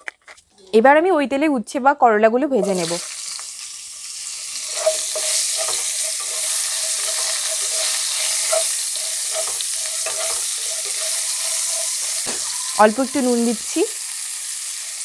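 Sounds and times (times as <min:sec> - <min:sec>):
slices sizzling in hot oil: 0:02.6 - 0:15.0.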